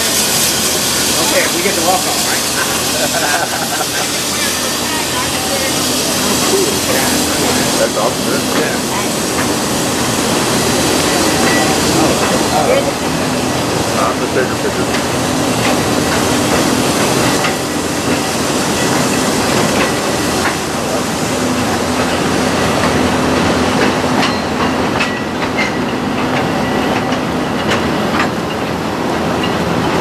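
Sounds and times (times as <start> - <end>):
steam train rumbling: 0.0 - 30.0
wheels clicking on rails: 0.0 - 30.0.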